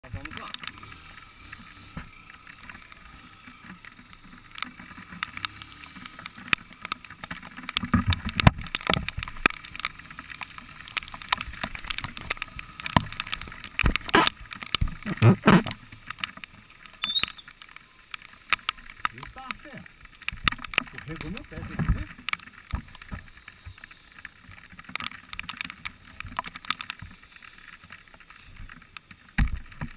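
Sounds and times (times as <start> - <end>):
tyres on wet road: 0.0 - 29.9
rain tapping on camera case: 1.6 - 29.9.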